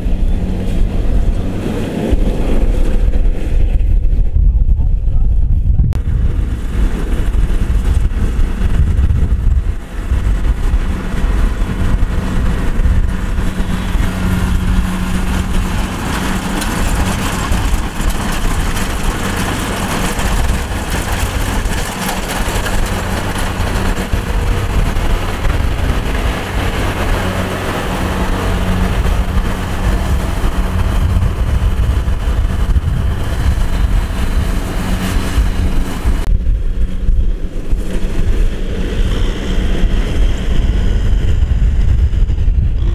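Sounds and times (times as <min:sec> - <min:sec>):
combine harvester droning: 0:00.0 - 0:42.9.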